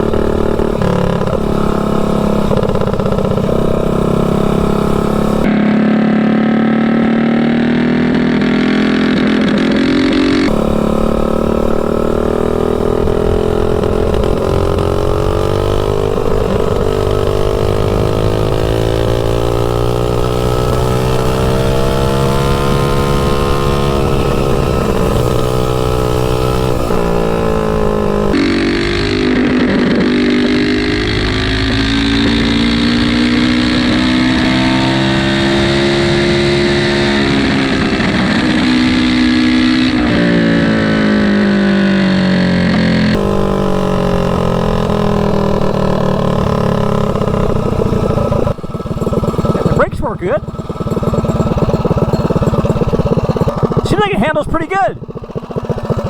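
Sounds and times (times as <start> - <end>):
mini bike engine revving: 0.0 - 56.0.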